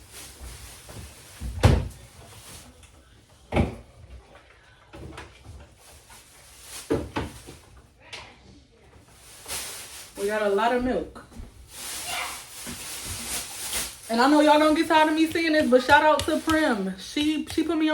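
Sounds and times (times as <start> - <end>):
groceries knocking and thumping: 0.0 - 2.8, 3.4 - 4.3, 4.9 - 7.9, 9.0 - 17.9.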